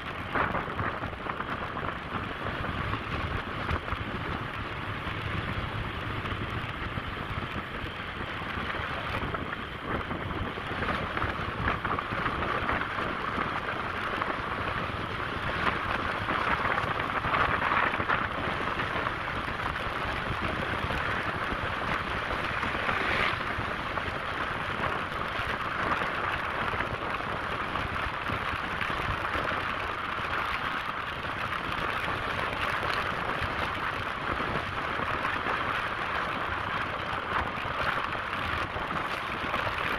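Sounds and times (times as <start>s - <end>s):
motorcycle road noise: 0.0s - 39.9s
wind noise: 0.0s - 39.9s.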